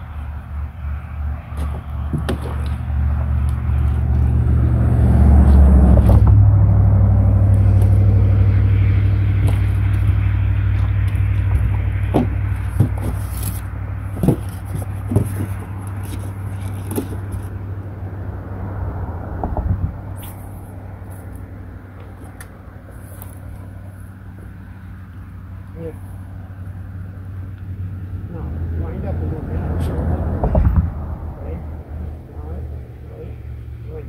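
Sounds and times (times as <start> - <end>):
engine droning: 0.0 - 34.0.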